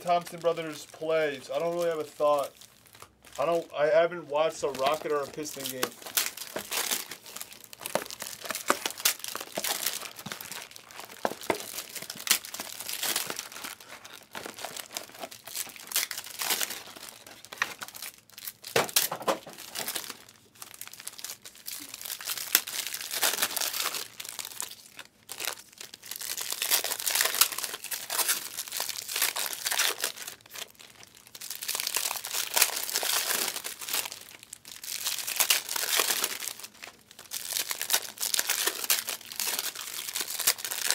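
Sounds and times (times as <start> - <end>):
card pack wrappers tearing and crinkling: 0.0 - 40.9.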